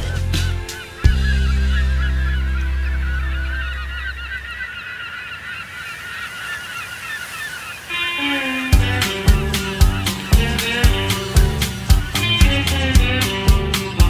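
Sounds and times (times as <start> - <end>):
flock of birds calling: 0.0 - 14.0.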